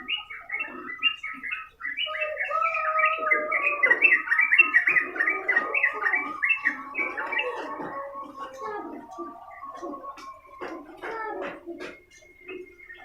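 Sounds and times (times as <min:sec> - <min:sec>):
bulbul singing: 0:00.0 - 0:13.0.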